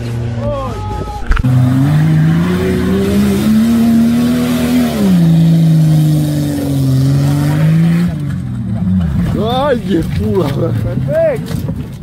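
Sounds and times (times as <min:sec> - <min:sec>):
car engine revving: 0:01.4 - 0:11.6.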